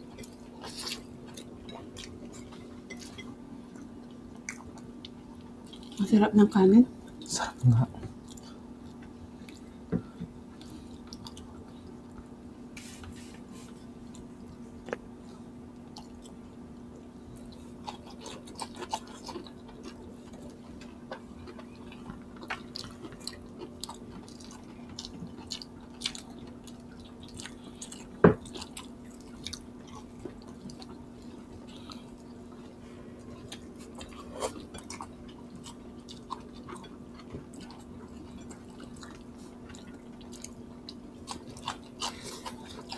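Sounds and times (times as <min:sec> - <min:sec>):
wet chewing and smacking: 0:00.0 - 0:06.1, 0:08.1 - 0:09.8, 0:10.6 - 0:12.3, 0:15.7 - 0:16.5, 0:17.3 - 0:42.9
steady low hum: 0:00.0 - 0:42.9.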